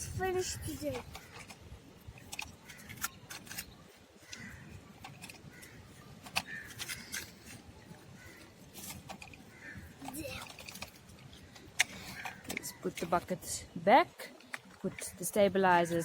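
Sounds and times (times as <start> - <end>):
plastic toy clicking and scraping in sand: 0.1 - 13.6.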